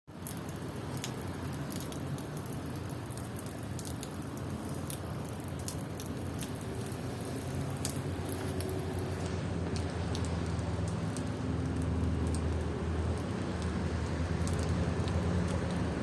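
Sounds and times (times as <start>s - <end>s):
raindrops ticking: 0.1s - 16.0s
steady rain falling: 0.1s - 16.0s.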